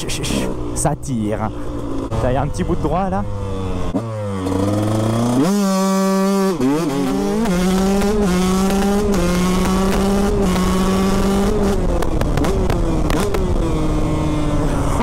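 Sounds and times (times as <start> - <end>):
two-stroke engine revving: 0.3 - 15.0.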